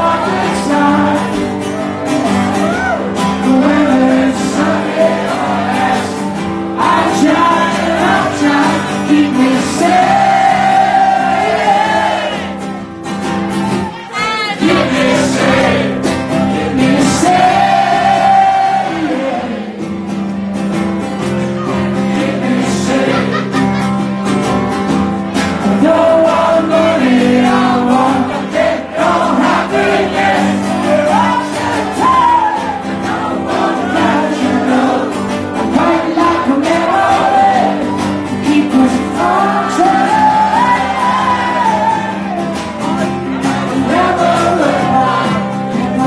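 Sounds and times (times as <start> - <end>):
man singing: 0.0 - 1.7, 3.2 - 12.5, 14.2 - 19.8, 21.5 - 23.5, 25.5 - 46.0
strummed acoustic guitar: 0.0 - 46.0.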